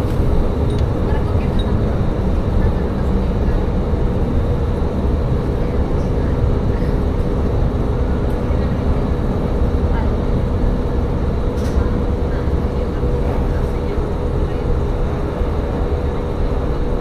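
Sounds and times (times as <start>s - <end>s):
railcar engine and rail rumble: 0.0s - 17.0s.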